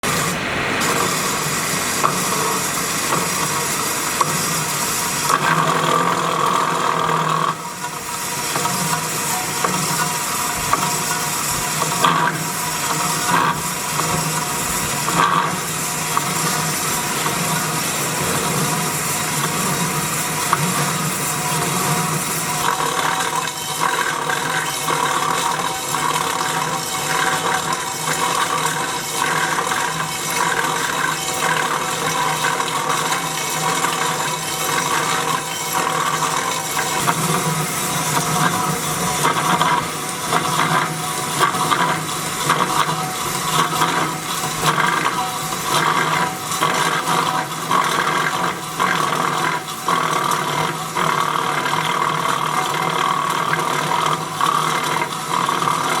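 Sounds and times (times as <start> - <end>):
metal-cutting saw cutting steel: 0.0 - 56.0.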